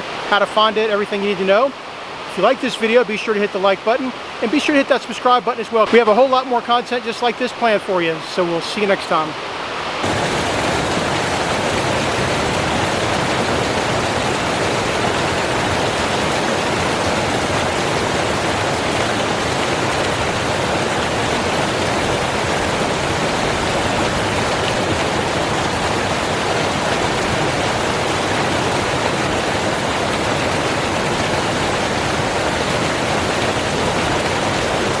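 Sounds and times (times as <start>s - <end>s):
water pouring down waterfall: 0.0s - 35.0s.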